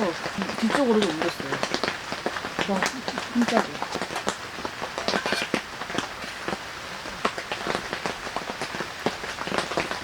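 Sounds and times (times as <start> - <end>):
heavy rain on a tent: 0.0 - 10.0
sharp raindrops striking: 0.0 - 10.0.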